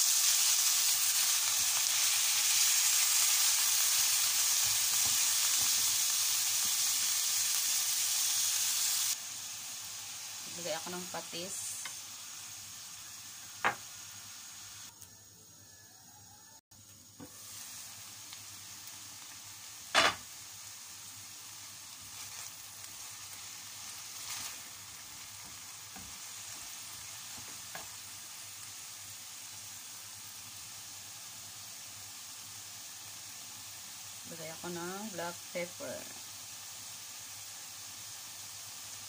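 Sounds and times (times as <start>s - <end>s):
chicken sizzling in oil: 0.0s - 39.0s.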